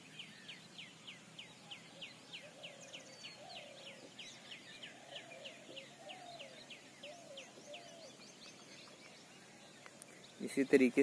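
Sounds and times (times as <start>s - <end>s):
small bird calling: 0.0s - 11.0s.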